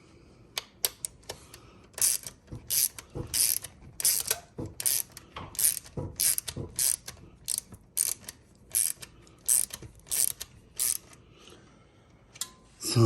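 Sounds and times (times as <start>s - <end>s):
ratchet wrench clicking: 0.6s - 11.2s.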